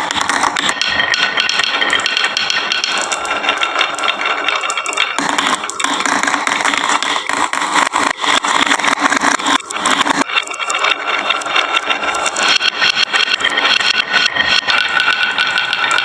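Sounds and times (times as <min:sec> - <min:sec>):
marbles rolling down wooden run: 0:00.0 - 0:16.0.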